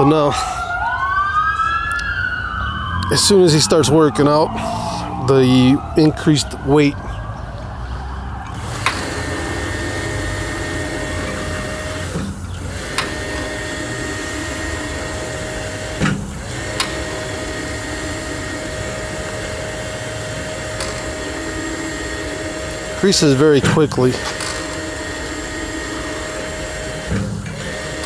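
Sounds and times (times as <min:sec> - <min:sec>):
electric pump whining: 0:00.0 - 0:28.0.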